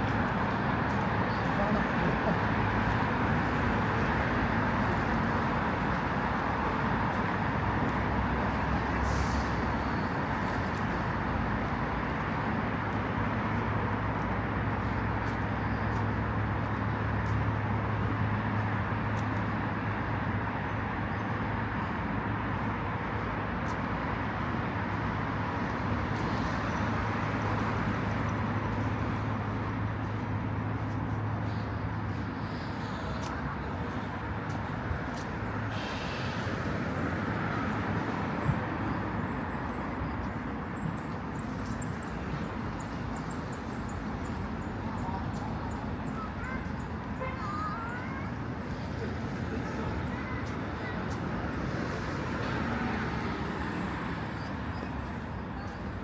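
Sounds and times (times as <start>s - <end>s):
street traffic passing: 0.0s - 56.0s.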